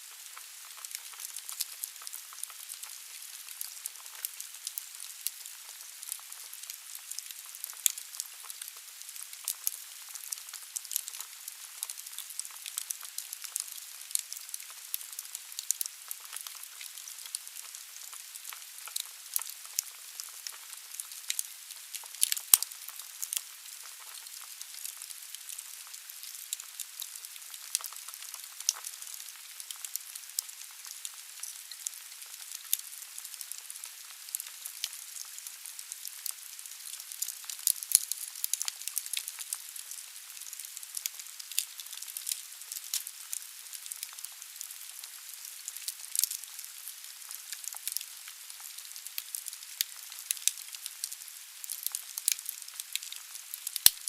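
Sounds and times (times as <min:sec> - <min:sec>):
fireplace fire crackling: 0:00.1 - 0:54.0.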